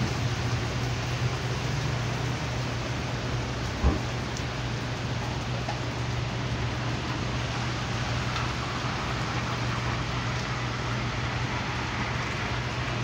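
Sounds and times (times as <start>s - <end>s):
heavy rain on pavement and canopy: 0.0s - 13.0s.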